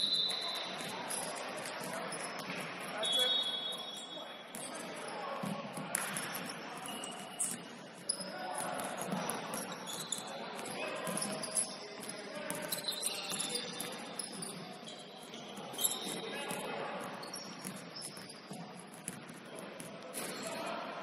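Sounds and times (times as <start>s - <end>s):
sneakers squeaking on hardwood: 0.0s - 20.6s.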